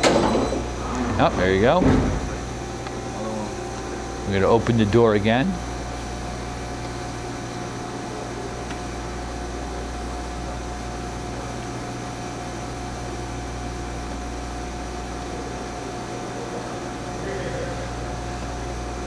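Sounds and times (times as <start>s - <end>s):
machining center humming and whining: 0.0s - 19.0s.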